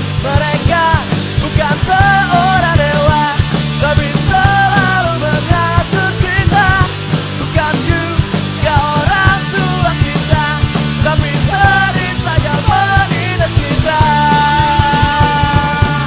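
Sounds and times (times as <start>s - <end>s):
bass: 0.0s - 16.0s
drums: 0.0s - 16.0s.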